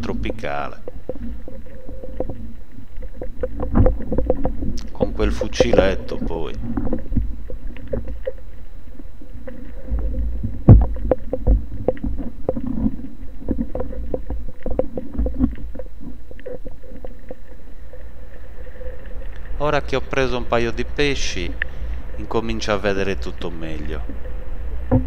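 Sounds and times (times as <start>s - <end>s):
underwater rumble of moving water: 0.0s - 25.0s.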